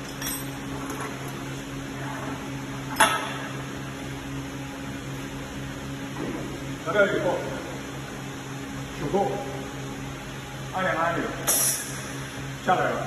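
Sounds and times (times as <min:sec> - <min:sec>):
welding machine electrical hum: 0:00.0 - 0:13.0.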